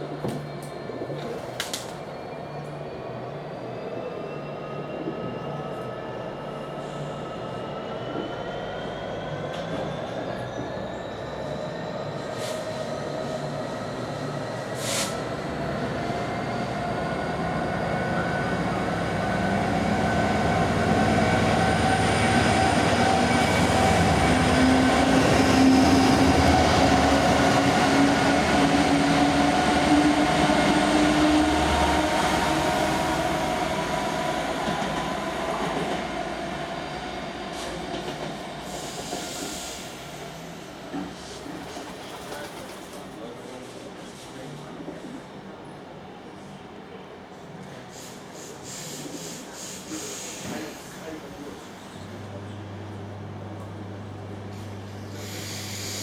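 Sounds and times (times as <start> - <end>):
train passing: 4.1 - 56.0.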